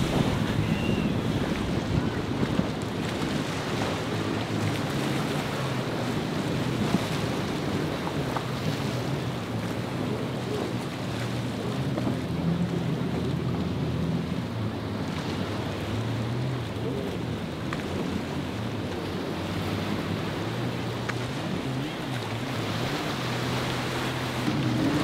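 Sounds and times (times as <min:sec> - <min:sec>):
boat engines running: 0:00.0 - 0:25.0
breaking water rushing: 0:00.0 - 0:25.0
wind: 0:00.0 - 0:25.0.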